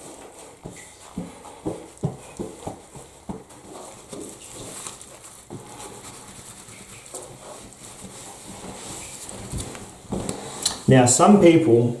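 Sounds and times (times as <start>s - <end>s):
towel rubbing wet fur: 0.0s - 10.6s.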